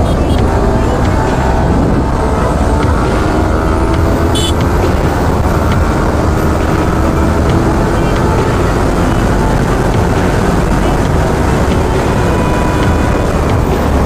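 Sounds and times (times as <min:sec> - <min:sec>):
motorcycle engine accelerating: 0:00.0 - 0:14.0
wind rumble on microphone: 0:00.0 - 0:14.0.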